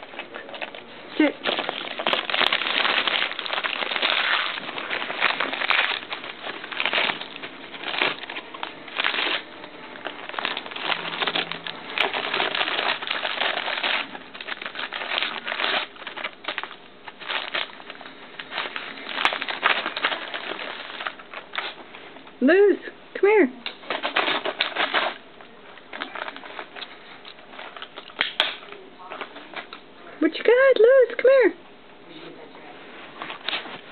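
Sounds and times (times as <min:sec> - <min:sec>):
wrapping paper crinkling and tearing: 0:00.0 - 0:22.4, 0:23.8 - 0:29.8, 0:33.0 - 0:33.9.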